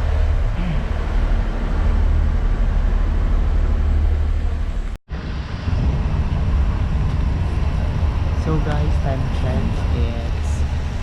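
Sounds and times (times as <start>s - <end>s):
train carriage low rumble: 0.0s - 11.0s.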